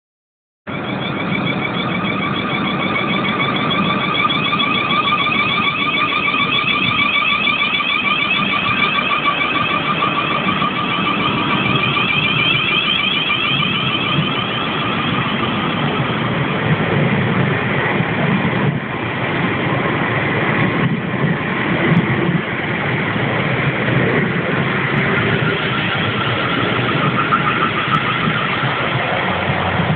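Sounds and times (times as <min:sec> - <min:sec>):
warbling electrical whine: 0:00.7 - 0:19.9, 0:22.0 - 0:29.9
train rumbling: 0:00.7 - 0:29.9.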